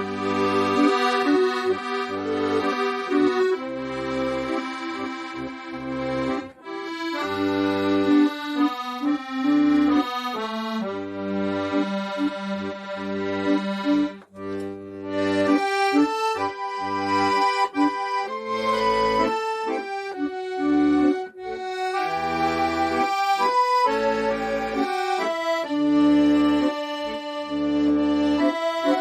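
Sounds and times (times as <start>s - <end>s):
accordion playing slow melody: 0.0s - 29.0s.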